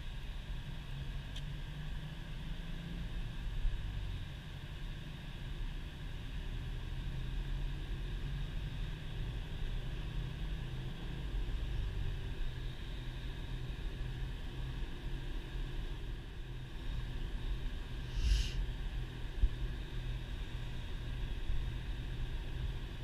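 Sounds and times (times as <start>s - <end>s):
car engine drone in cabin: 0.0s - 23.0s.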